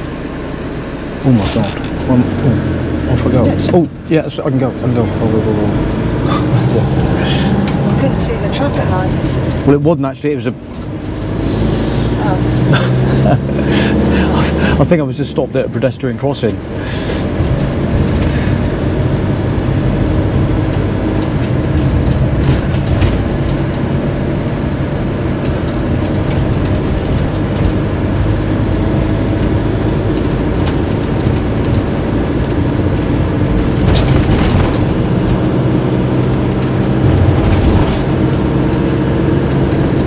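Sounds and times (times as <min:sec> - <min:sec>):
diesel engine: 0:00.0 - 0:40.0
road noise: 0:00.0 - 0:40.0.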